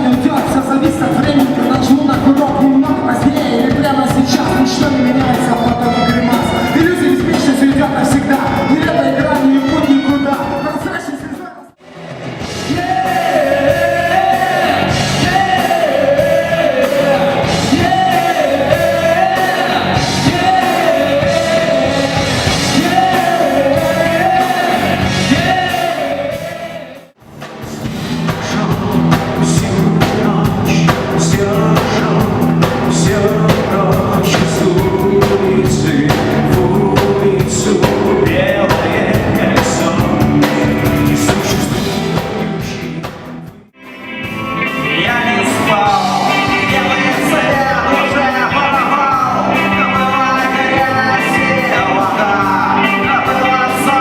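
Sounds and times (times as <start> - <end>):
band music with singing: 0.0 - 54.0.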